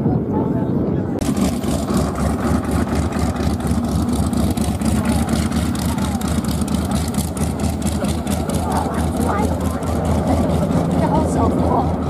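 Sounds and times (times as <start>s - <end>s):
radial aircraft engine idling: 0.1s - 12.0s.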